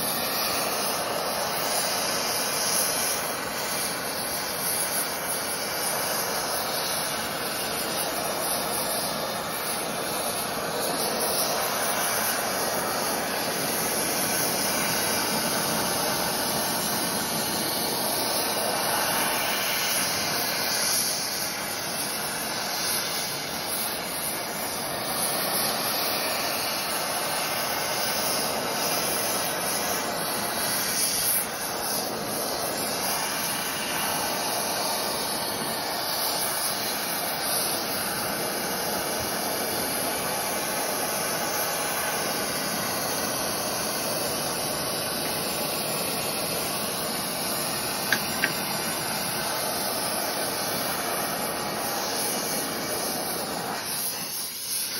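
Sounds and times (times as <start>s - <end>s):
torch burning with steady hiss: 0.0s - 54.9s.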